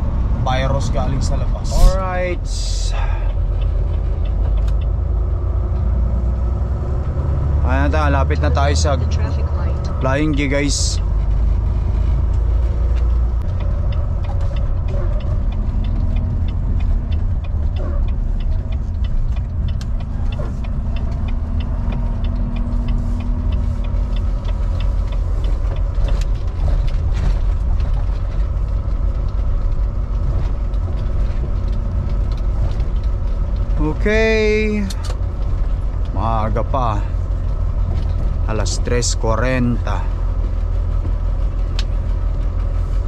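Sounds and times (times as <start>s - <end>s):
truck diesel engine rumbling: 0.0s - 43.0s
rapid light ticking: 0.2s - 43.0s.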